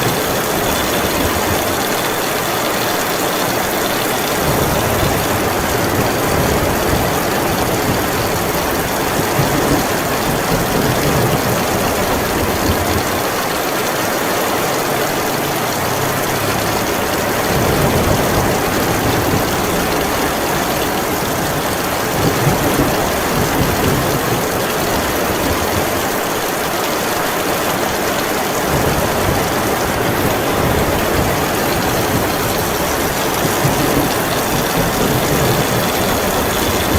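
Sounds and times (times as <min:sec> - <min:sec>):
storm wind rumbling: 0:00.0 - 0:13.4, 0:15.4 - 0:26.7, 0:27.4 - 0:36.9
heavy rain hissing: 0:00.0 - 0:36.9.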